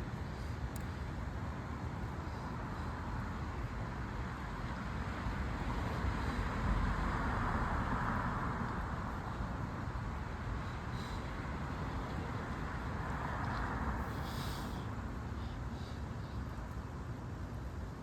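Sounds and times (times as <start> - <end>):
traffic hum: 0.0 - 18.0.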